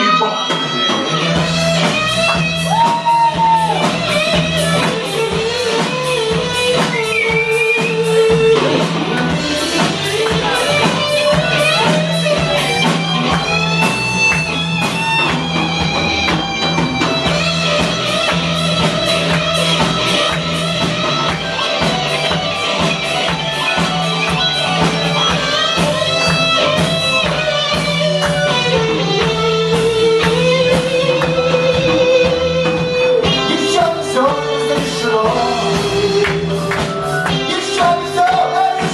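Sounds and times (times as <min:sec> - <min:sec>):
bass guitar: 0:00.0 - 0:38.9
lead guitar melody: 0:00.0 - 0:38.9
steady drums: 0:00.0 - 0:38.9
strummed backing guitar: 0:00.0 - 0:38.9.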